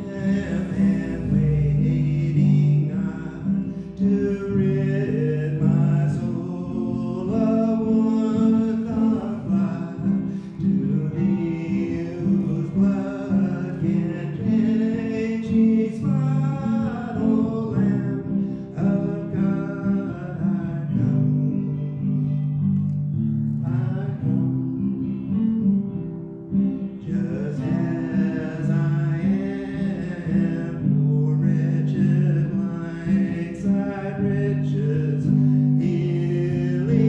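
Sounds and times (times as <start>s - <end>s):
person singing: 0.0s - 22.9s, 23.6s - 25.6s, 26.9s - 37.0s
acoustic guitar: 0.0s - 37.0s.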